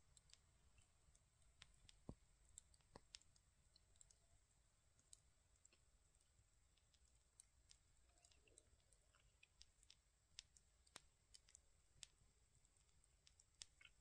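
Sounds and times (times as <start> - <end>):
campfire crackling: 0.0 - 4.3, 4.9 - 14.0.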